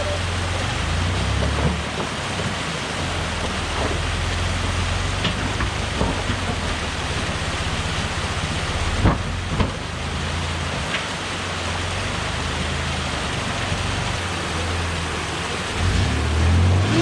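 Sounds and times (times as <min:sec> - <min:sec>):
truck engine idling low: 0:00.0 - 0:16.7.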